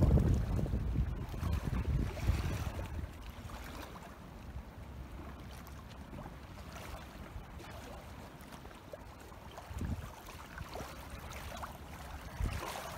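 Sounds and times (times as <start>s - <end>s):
waves lapping at shore: 0.0s - 12.9s
wind rumbling on microphone: 0.0s - 12.9s.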